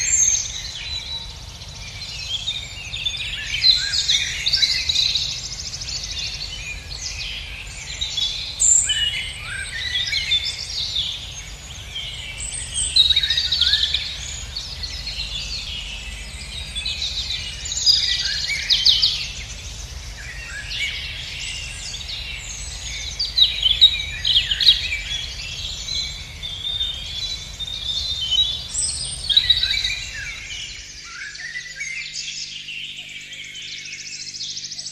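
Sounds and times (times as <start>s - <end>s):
low steady rumble: 0.0s - 31.0s
songbirds chirping and trilling: 0.0s - 34.9s.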